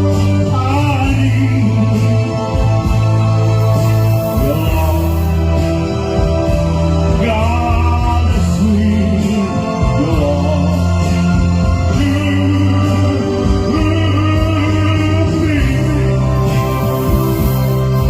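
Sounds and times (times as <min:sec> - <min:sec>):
slow music with bass and chords: 0:00.0 - 0:18.0.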